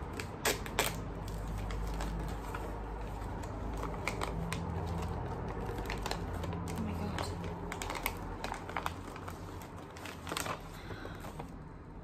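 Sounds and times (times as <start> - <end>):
paper bag rustling: 0.0 - 11.6.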